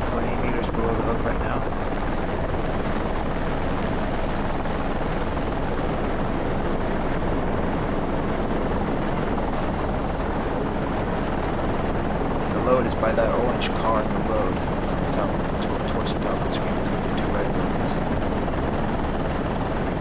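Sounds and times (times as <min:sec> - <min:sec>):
helicopter rotor and engine noise: 0:00.0 - 0:20.0.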